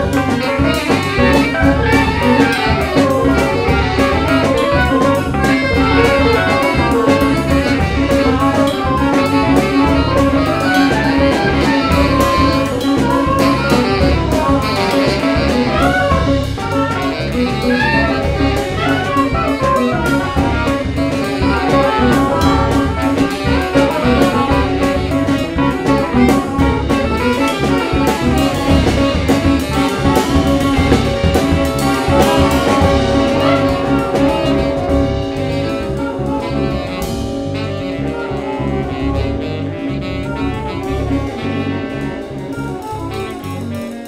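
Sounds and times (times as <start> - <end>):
drum kit: 0.0 - 44.0
electric bass: 0.0 - 44.0
electric guitar: 0.0 - 44.0
saxophones playing melody: 0.0 - 44.0.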